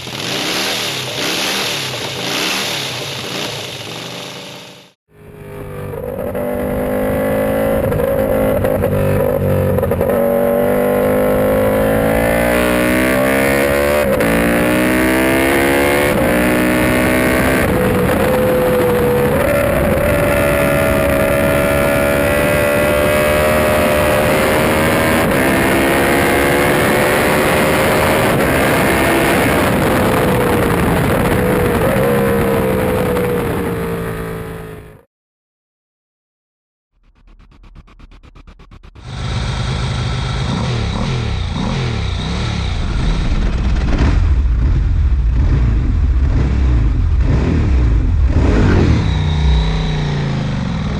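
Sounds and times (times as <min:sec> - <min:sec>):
motorcycle engine revving: 0:00.0 - 0:35.1, 0:37.0 - 0:50.9.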